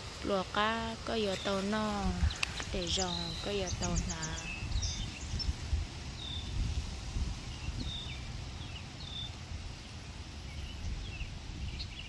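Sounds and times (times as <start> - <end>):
wind on microphone: 0.0 - 12.0
bird chirps: 1.2 - 6.6, 7.5 - 12.0.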